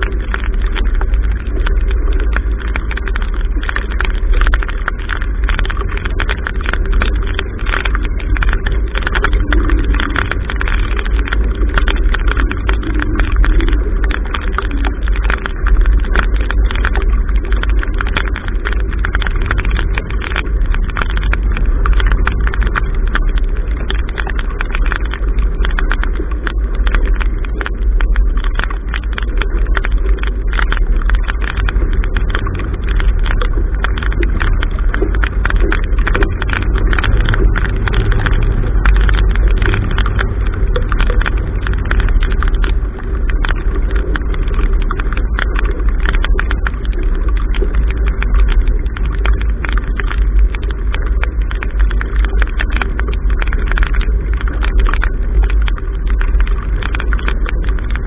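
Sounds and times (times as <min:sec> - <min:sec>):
deep rumble: 0:00.0 - 0:58.0
water drops ticking on camera: 0:00.0 - 0:58.0
water washing along hull: 0:00.0 - 0:58.0.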